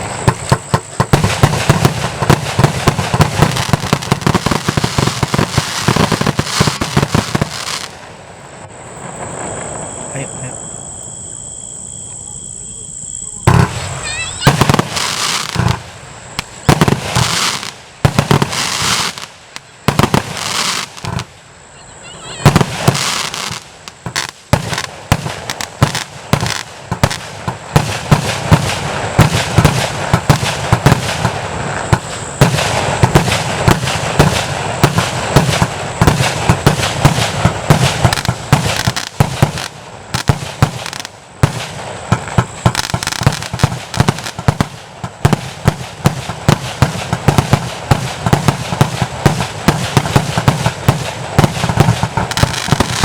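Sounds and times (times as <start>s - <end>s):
fireworks cake firing: 0.0s - 10.6s, 13.2s - 53.0s.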